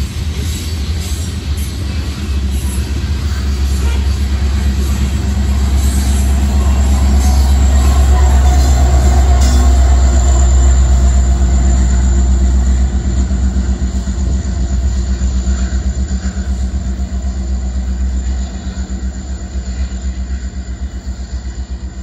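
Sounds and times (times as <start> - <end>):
diesel locomotive rumbling past: 0.0 - 22.0.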